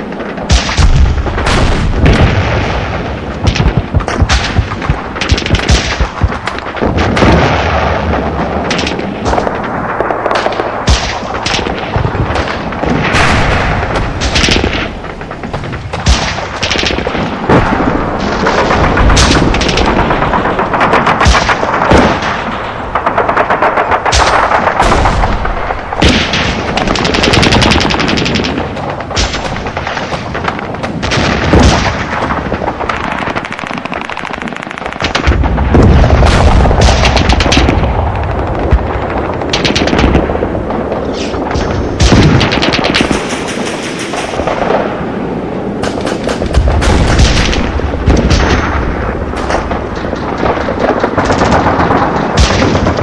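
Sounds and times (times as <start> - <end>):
explosion booms: 0.0 - 33.4, 35.0 - 45.2, 45.8 - 53.0
machine-gun fire and gunshots: 0.0 - 53.0.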